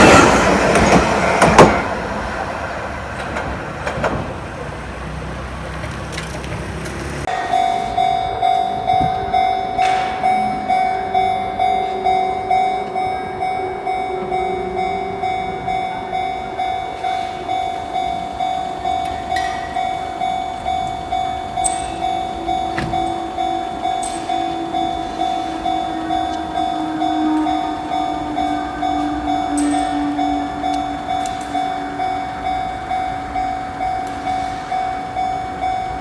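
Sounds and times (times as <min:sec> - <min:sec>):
level crossing warning bell: 0:07.2 - 0:36.0.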